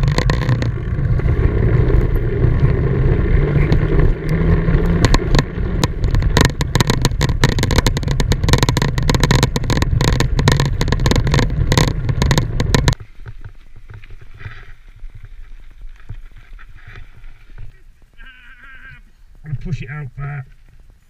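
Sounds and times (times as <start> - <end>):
wind rumble on microphone: 0.0 - 18.2
bike rattling over rough ground: 0.0 - 21.0
tyres rolling on snow: 0.0 - 21.0.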